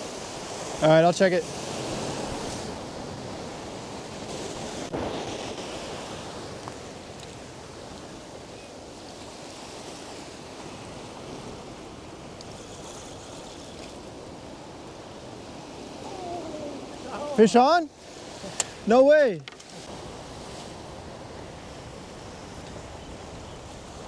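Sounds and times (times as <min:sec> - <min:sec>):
ocean surf breaking on rocks: 0:00.0 - 0:24.0.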